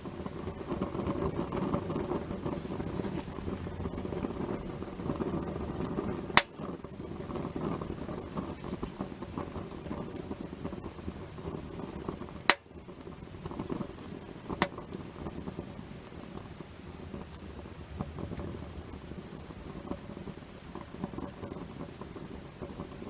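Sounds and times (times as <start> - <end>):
burning wood popping: 0.0 - 23.0
wood fire crackling: 0.0 - 23.0.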